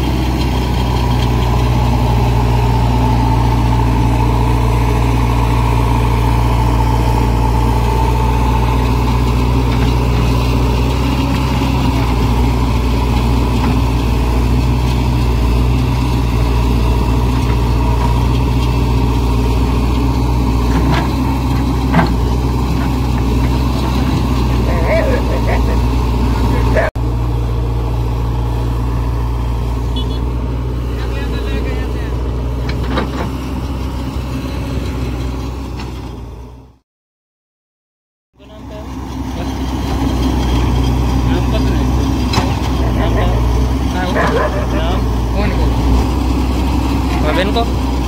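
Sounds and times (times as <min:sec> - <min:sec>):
diesel engine running: 0:00.0 - 0:36.8, 0:38.4 - 0:48.0.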